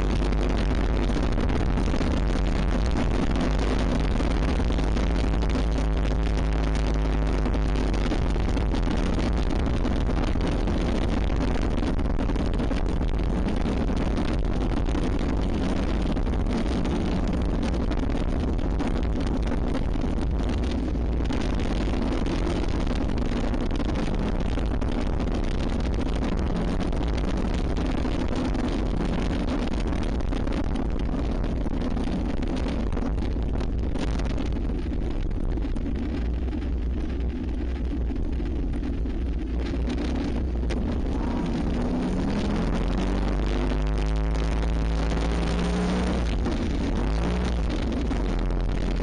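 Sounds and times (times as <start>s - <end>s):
motorcycle engine running: 0.0s - 49.0s
wind rumble on microphone: 0.0s - 49.0s.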